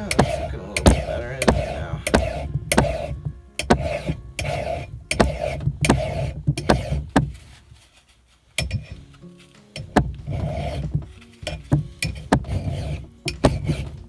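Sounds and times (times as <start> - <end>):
file scraping axe blade: 0.0 - 14.0.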